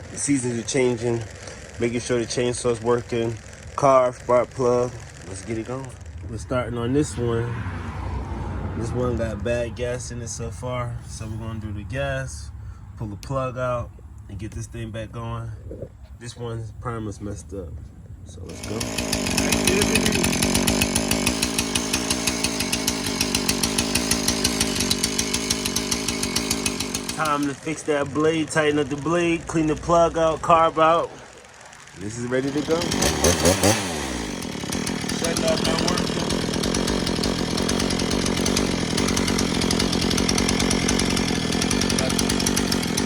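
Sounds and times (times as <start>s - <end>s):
chainsaw engine idling: 0.0s - 43.0s.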